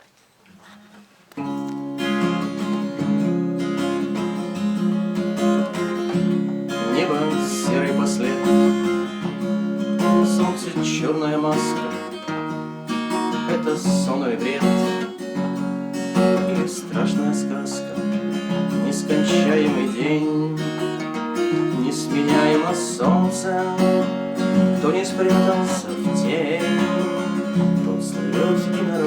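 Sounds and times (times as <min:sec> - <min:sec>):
acoustic guitar strumming chords: 0:00.6 - 0:29.0.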